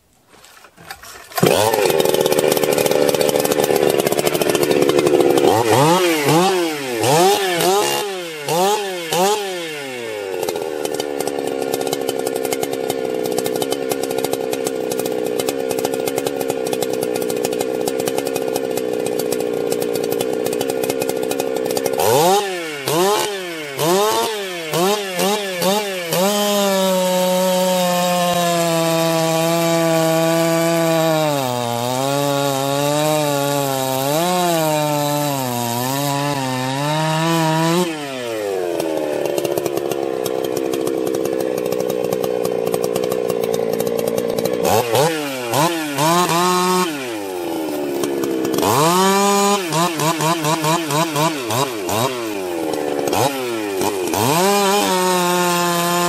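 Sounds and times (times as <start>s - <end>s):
chainsaw revving: 0.3s - 56.0s.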